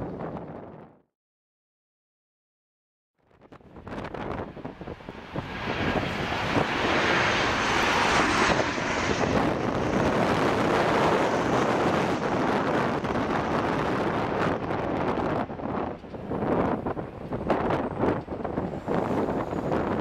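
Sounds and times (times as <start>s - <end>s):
wind rumble on microphone: 0.0s - 1.0s, 3.3s - 20.0s
jet airliner passing overhead: 3.7s - 20.0s.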